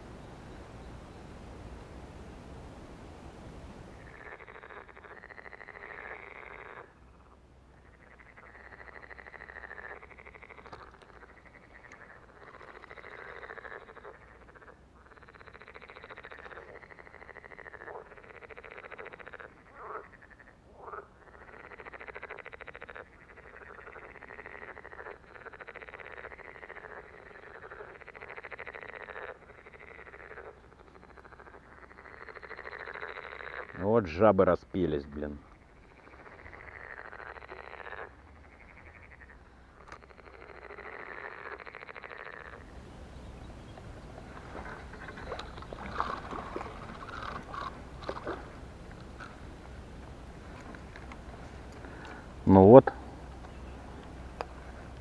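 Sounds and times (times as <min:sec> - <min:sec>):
frogs trilling: 0:03.9 - 0:55.0.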